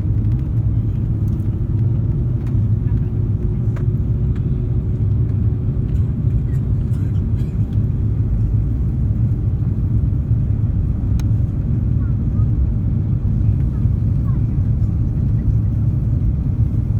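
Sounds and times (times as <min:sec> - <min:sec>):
airliner cabin engine rumble: 0:00.0 - 0:16.9.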